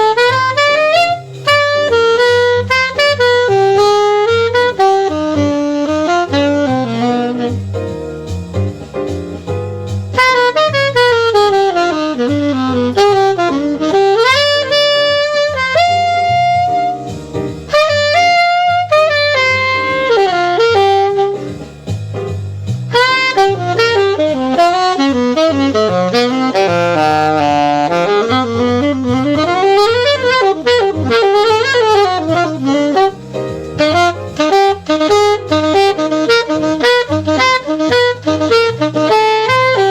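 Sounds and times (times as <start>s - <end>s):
bass line: 0.0s - 39.9s
saxophone jazz solo: 0.0s - 39.9s.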